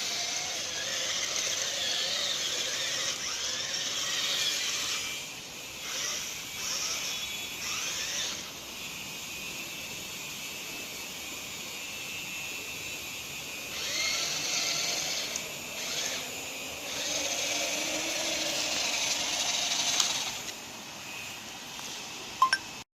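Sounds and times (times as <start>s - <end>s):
toy excavator motors whirring: 0.0s - 20.7s.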